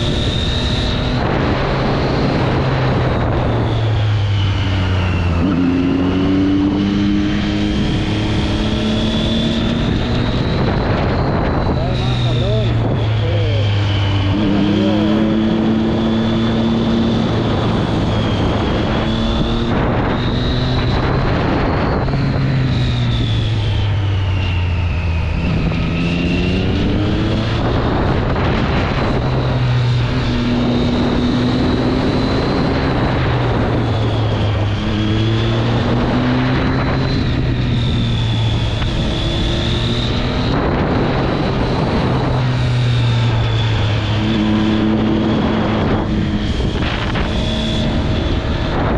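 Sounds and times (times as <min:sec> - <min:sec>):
motorcycle engine revving: 0:00.0 - 0:48.9
wind noise: 0:00.0 - 0:48.9.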